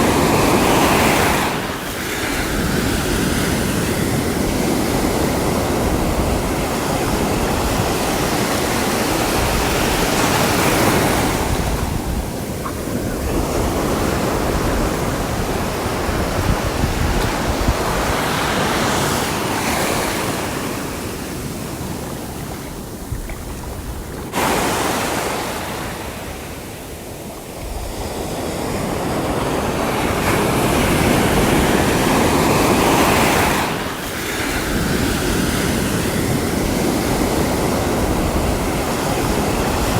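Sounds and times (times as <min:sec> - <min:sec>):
sea waves breaking on shore: 0:00.0 - 0:39.9
wind rumbling on microphone: 0:00.0 - 0:39.9.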